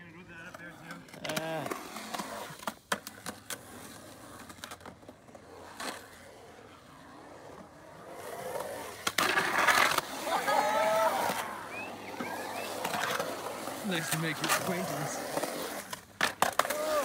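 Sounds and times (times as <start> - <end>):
skateboard wheels rolling on concrete: 0.0 - 17.0
skateboard clacks: 0.4 - 17.0.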